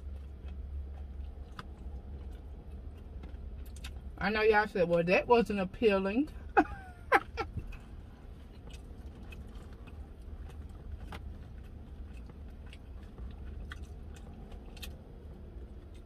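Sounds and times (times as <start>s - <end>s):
person chewing food: 0.0s - 4.2s, 6.3s - 16.0s
steady low rumble: 0.0s - 16.0s.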